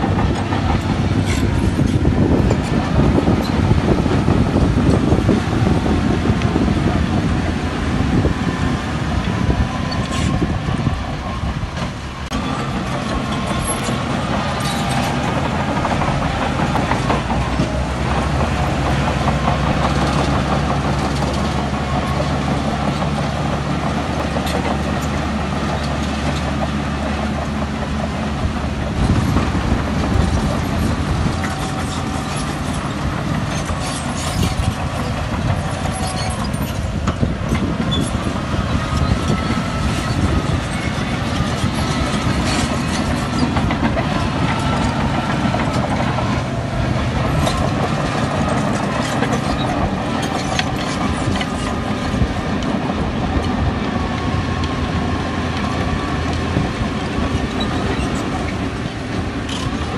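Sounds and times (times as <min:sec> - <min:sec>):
diesel engine drone: 0:00.0 - 0:59.9
steel tracks clanking and squeaking: 0:00.0 - 0:59.9.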